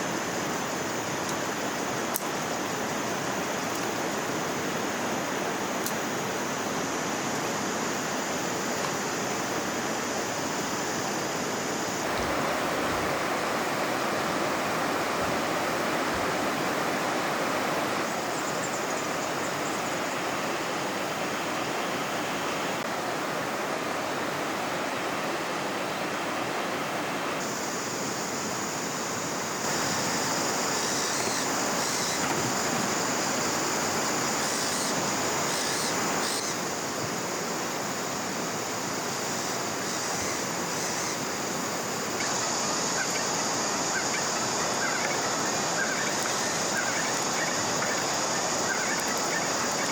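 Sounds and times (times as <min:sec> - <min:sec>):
high-pitched hiss: 0:00.0 - 0:49.9
river water rushing: 0:00.0 - 0:49.9.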